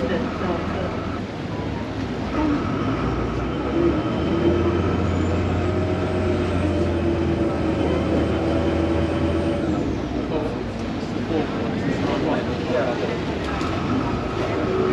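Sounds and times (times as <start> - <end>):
boat engine droning: 0.0 - 14.9.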